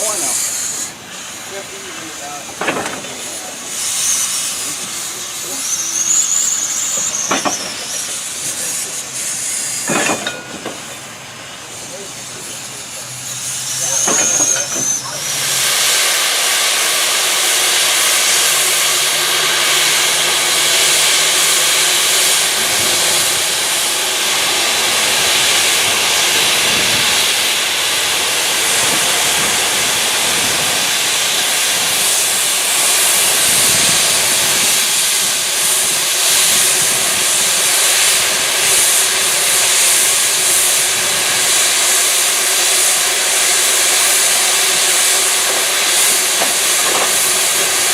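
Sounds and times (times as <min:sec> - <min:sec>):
steam locomotive venting steam: 0:00.0 - 0:47.9.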